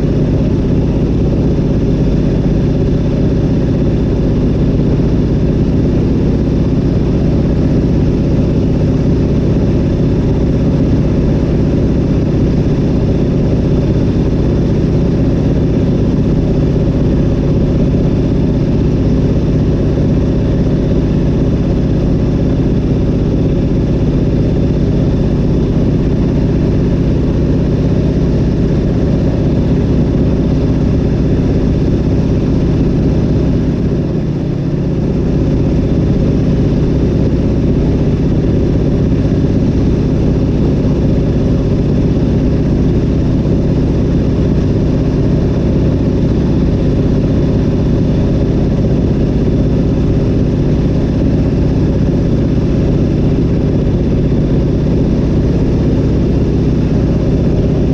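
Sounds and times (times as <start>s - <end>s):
propeller plane engine in cockpit: 0.0s - 57.9s.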